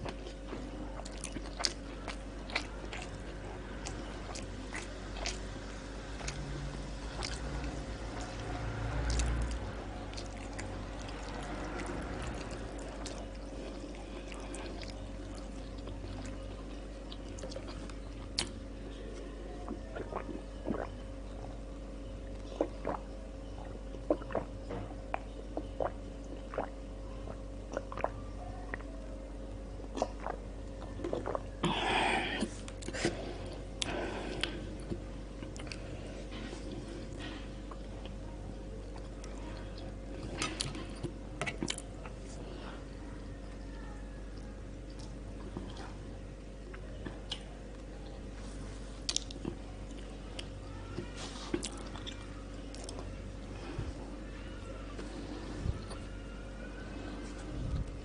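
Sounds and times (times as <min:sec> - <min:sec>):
mouth chewing food: 0:00.0 - 0:21.6, 0:22.3 - 0:28.9, 0:29.8 - 0:42.6, 0:44.6 - 0:48.2, 0:49.0 - 0:54.0
low electrical hum: 0:00.0 - 0:58.0.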